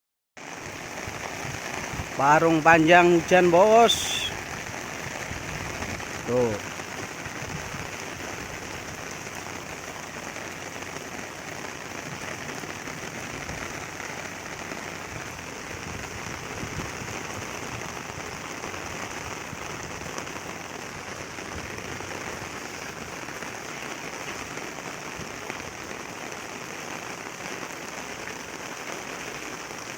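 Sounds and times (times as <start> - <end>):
rain falling: 0.4 - 29.9.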